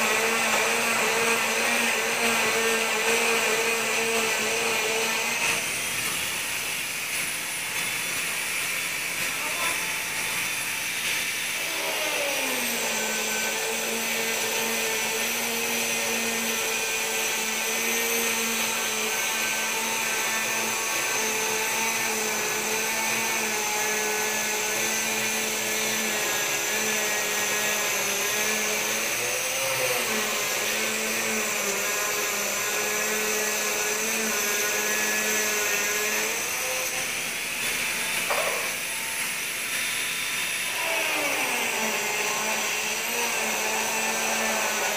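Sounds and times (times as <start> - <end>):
power tool motor under load: 0.0 - 44.9.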